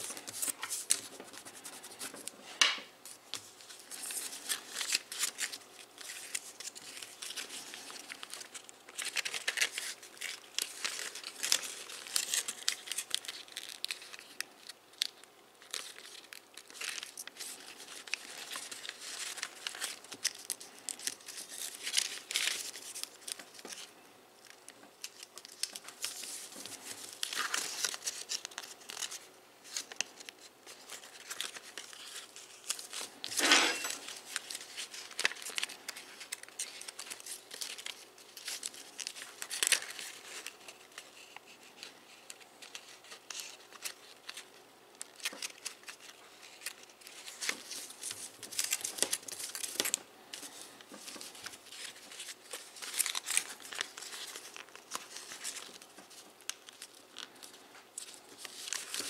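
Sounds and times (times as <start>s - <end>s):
paper crinkling and rustling: 0.0s - 59.0s.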